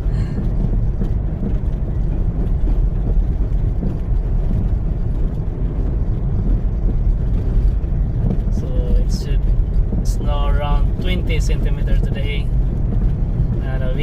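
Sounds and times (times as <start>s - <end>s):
car driving through deep snow: 0.0s - 14.0s.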